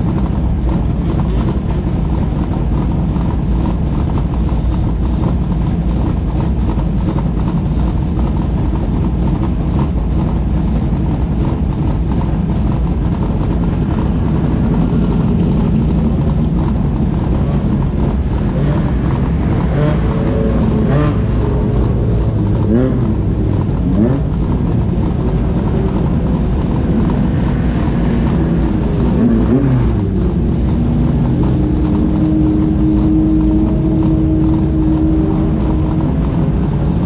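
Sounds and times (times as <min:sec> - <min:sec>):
race car engines idling: 0:00.0 - 0:37.0.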